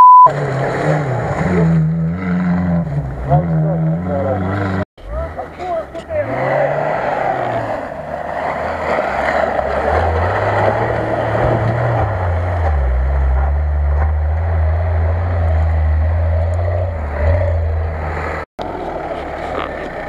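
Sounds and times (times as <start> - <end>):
off-road vehicle engine under load: 0.0 - 20.0.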